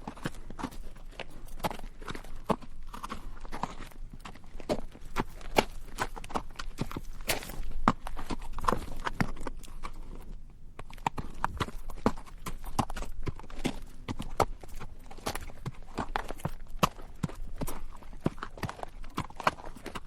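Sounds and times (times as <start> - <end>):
horse hooves walking on rocky dirt: 0.0 - 20.0.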